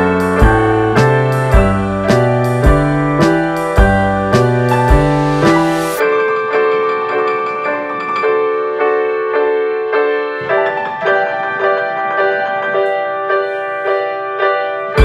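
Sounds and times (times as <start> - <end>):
piano repeated notes: 0.0 - 15.0.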